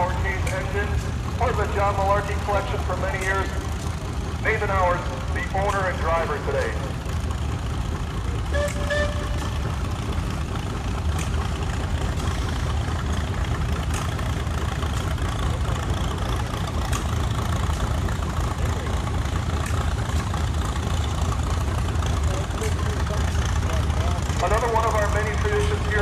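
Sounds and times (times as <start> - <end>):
machinery engine rumble: 0.0 - 26.0.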